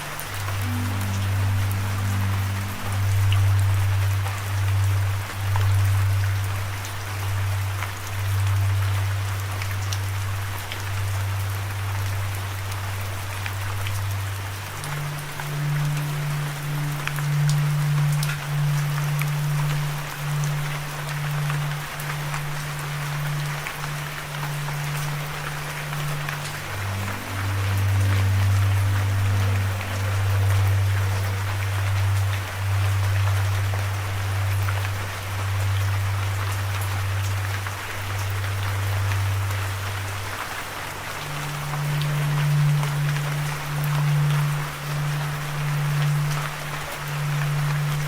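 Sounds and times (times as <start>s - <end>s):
constant low hum: 0.0s - 48.0s
steady rain: 0.0s - 48.0s.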